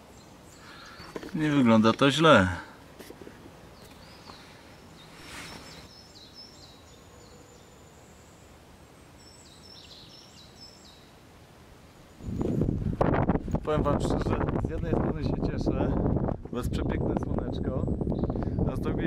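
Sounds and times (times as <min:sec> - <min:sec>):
quiet forest background: 0:00.0 - 0:19.0
songbird singing faintly: 0:00.0 - 0:19.0.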